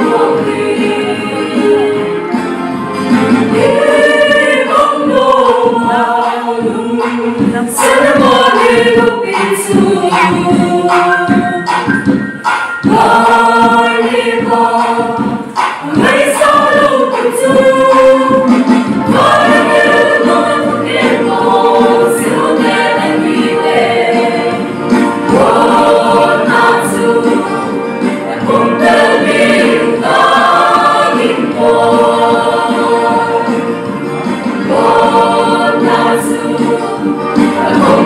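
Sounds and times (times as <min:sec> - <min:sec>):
mixed choir singing a hymn: 0:00.0 - 0:12.1, 0:12.8 - 0:38.0.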